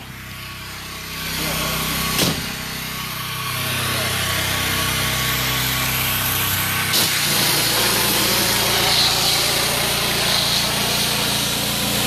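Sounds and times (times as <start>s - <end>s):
pressure washer spraying: 0.0s - 12.0s.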